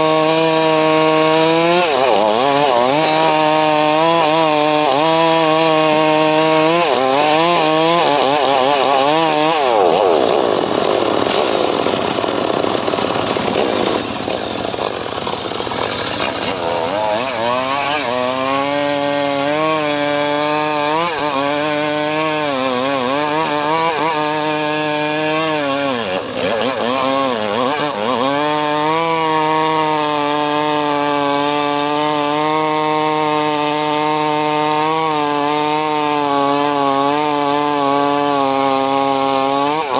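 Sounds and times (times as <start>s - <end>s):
engine-driven saw cutting wood: 0.0s - 39.9s.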